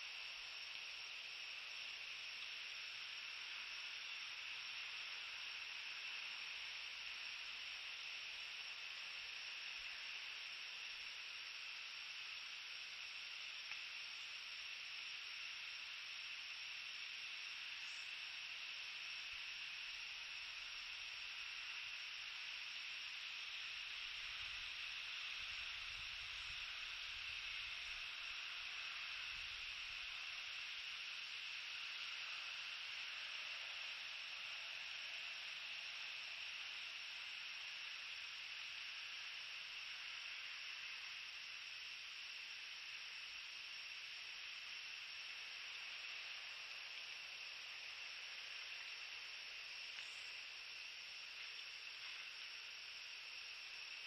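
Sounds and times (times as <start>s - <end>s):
microphone hiss: 0.0s - 54.0s.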